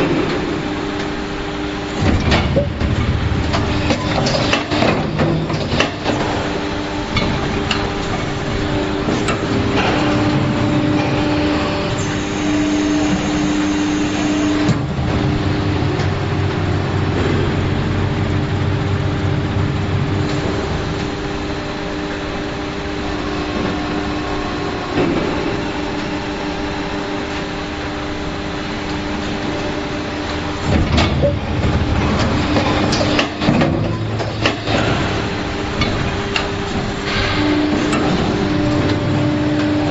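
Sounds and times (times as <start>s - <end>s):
injection molding machine hum: 0.0s - 39.9s.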